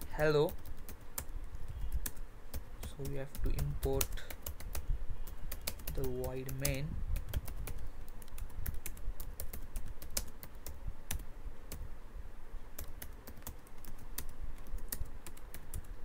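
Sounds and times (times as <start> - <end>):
typing on a keyboard: 0.4 - 11.2, 12.8 - 16.0.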